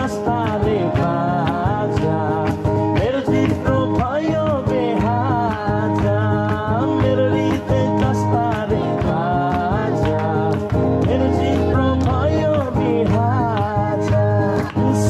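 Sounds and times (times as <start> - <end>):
worship song with guitar: 0.0 - 15.0.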